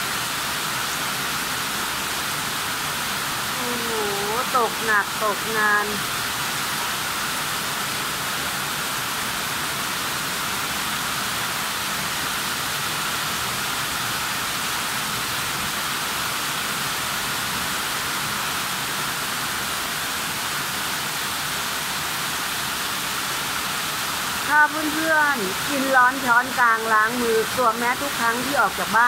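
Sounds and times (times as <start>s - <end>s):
heavy rain pouring on roofs: 0.0s - 29.0s.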